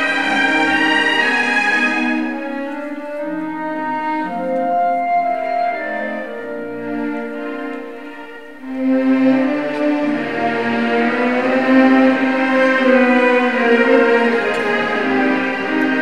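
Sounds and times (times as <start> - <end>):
orchestral ballet music: 0.0 - 16.0.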